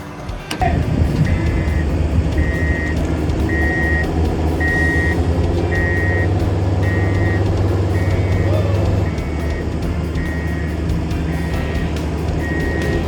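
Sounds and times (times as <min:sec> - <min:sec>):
heavy vehicle engine running: 0:00.0 - 0:13.0
vehicle reversing alarm beeping: 0:00.5 - 0:13.0.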